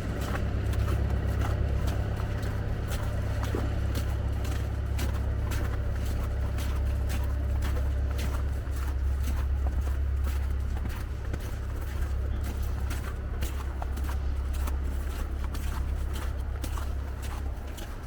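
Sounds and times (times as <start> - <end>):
footsteps on slushy ground: 0.0 - 18.0.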